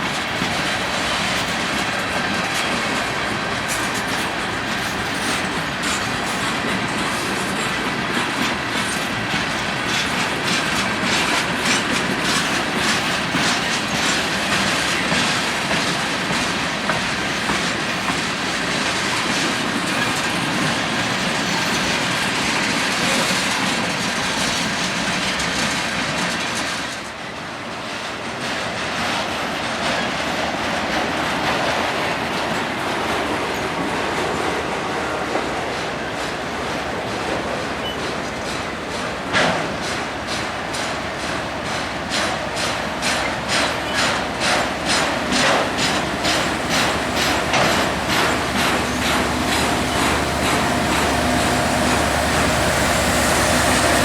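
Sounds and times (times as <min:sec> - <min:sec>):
train wheels clickety-clack: 0:00.0 - 0:54.0.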